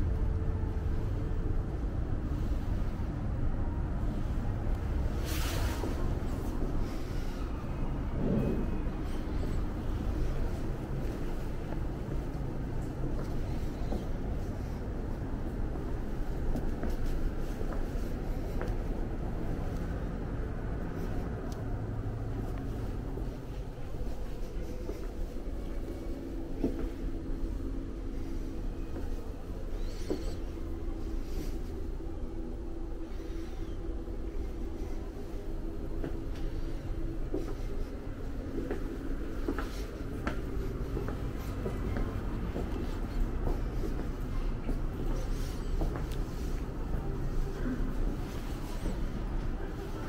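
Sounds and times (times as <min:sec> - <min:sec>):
low machinery rumble: 0:00.0 - 0:50.0
soft footsteps: 0:04.1 - 0:50.0.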